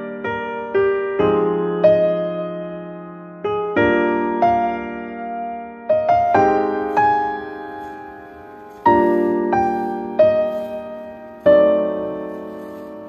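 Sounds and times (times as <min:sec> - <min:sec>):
slow soft solo piano: 0:00.0 - 0:13.0.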